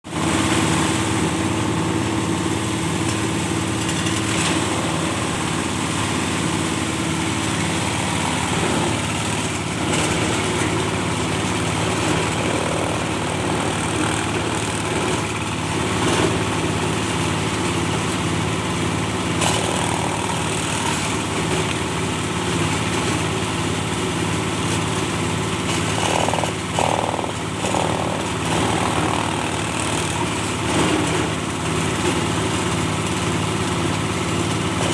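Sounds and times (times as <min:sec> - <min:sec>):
grinder machine droning: 0:00.1 - 0:34.9.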